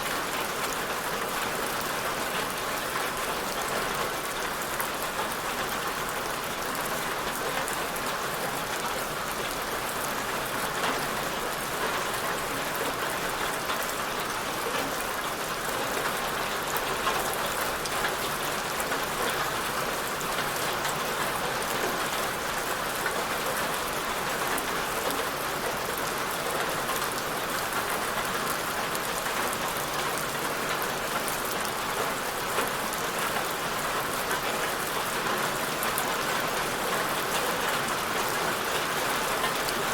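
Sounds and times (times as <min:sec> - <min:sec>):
steady rain on a surface: 0:00.0 - 0:39.9.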